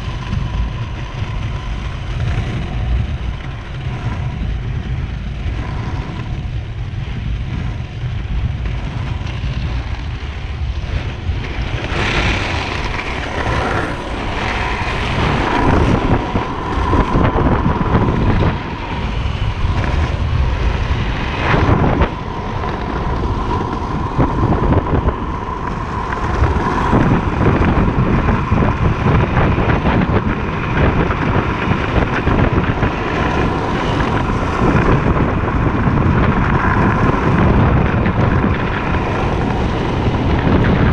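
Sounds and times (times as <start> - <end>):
wheels rolling on asphalt: 0.0 - 40.9
wind buffeting microphone: 0.0 - 40.9.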